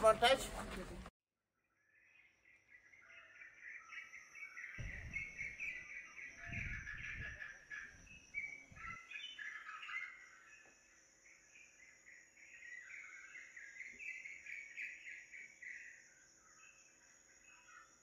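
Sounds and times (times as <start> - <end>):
birds chirping: 0.0 - 1.1, 2.5 - 18.0.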